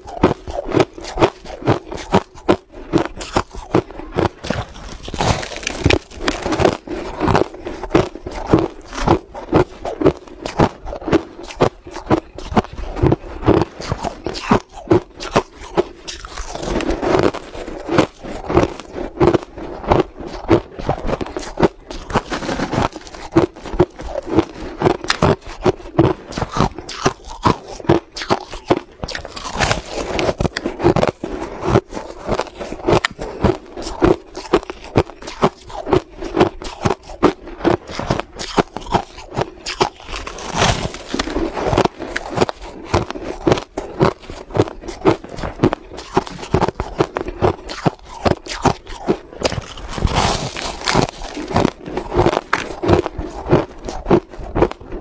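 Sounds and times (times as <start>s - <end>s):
crushed ice being chewed: 0.0s - 55.0s.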